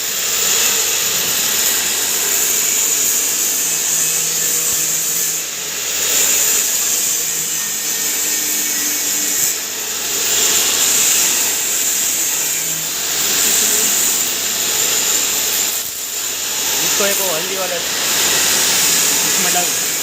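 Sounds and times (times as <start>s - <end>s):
spice grinding mill whirring: 0.0s - 20.0s.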